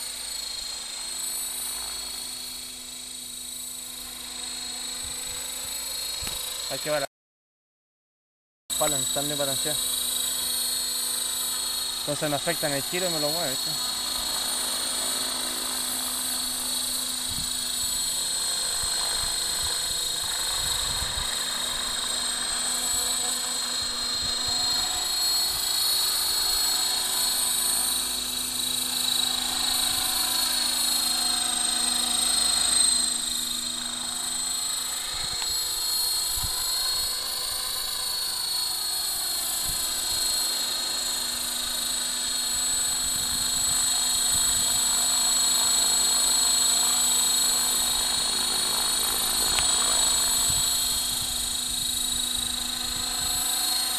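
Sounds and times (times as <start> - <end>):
model helicopter motor whine: 0.0 - 7.1, 8.7 - 53.9.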